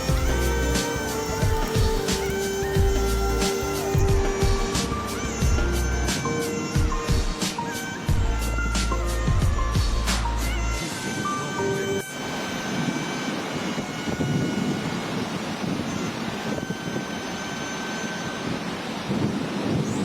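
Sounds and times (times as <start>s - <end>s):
strong wind gusting: 0.0s - 20.0s.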